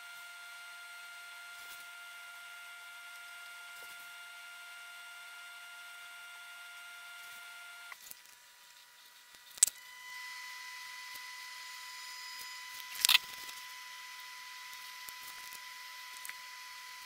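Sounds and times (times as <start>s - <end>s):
faint electronic whine and hiss: 0.0s - 17.0s.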